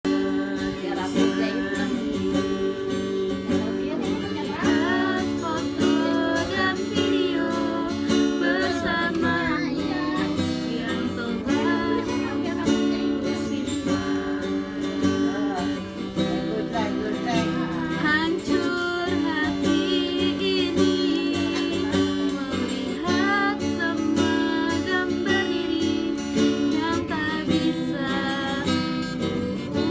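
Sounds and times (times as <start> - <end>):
person singing: 0.0 - 29.9
strummed acoustic guitar: 0.0 - 29.9.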